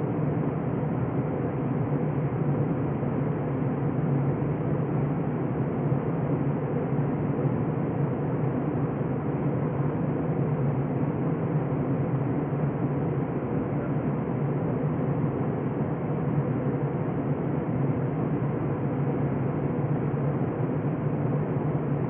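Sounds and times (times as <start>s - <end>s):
jet engines droning: 0.0s - 22.0s
steady low hum: 0.0s - 22.0s.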